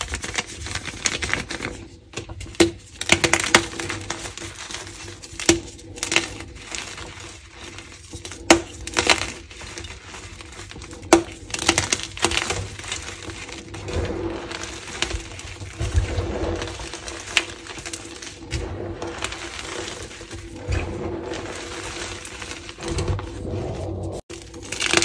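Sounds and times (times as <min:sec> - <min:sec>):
chalk block cracking and crunching: 0:00.0 - 0:25.0
chalk powder crumbling: 0:03.0 - 0:25.0.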